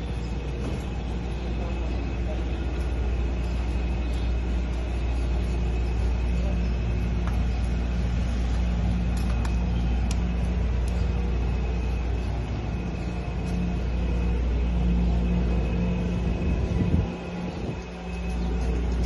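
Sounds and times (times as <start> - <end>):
faint high whine: 0.0 - 19.0
low rumble of street traffic: 0.0 - 19.0.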